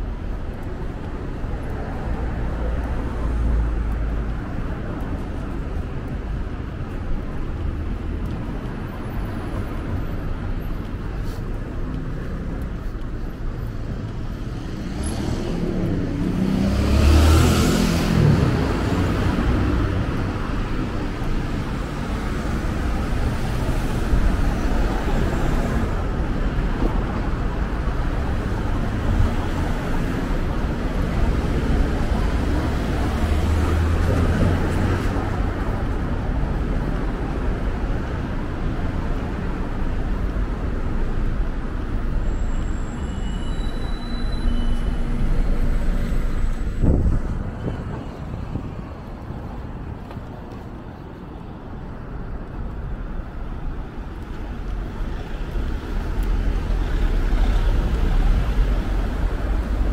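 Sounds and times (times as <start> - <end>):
passing cars: 0.0 - 59.9.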